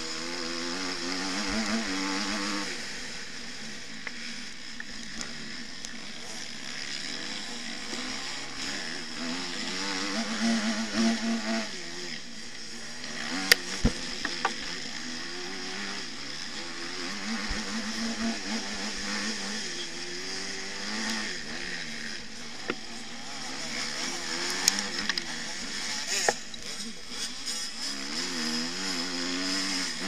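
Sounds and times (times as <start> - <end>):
motocross bike engine revving: 0.0 - 30.0.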